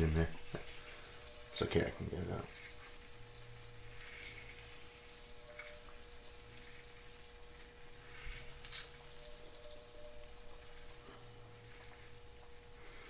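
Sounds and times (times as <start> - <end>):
juice dripping into skillet: 0.0 - 13.0
sizzle in hot pan: 0.0 - 13.0
spatter in pan: 0.0 - 13.0.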